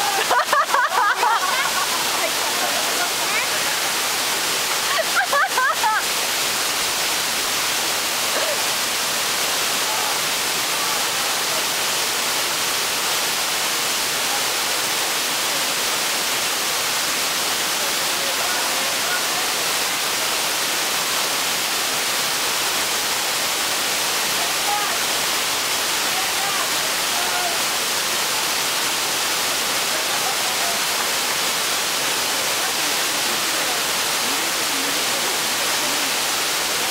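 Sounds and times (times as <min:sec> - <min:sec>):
waterfall pouring onto rock: 0:00.0 - 0:36.9.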